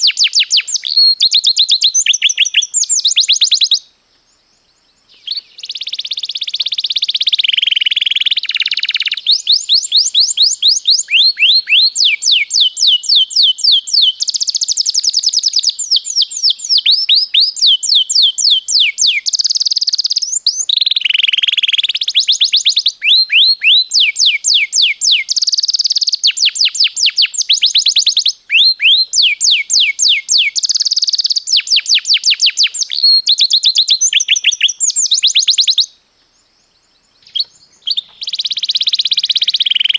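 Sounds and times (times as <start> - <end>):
canary singing trills: 0.0 - 3.9, 5.0 - 39.9.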